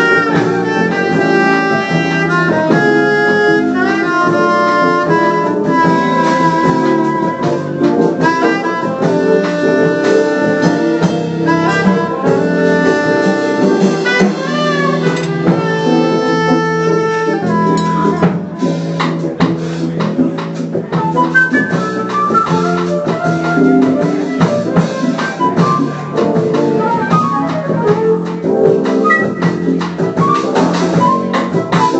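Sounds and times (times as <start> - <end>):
saxophone melody: 0.0 - 19.5, 20.9 - 31.9
drums: 0.0 - 31.9.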